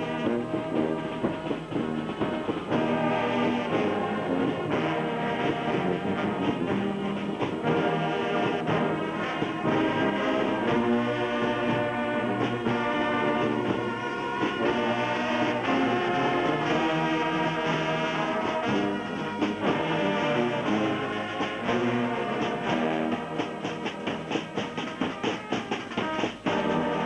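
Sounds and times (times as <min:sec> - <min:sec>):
brass band music: 0:00.0 - 0:27.0.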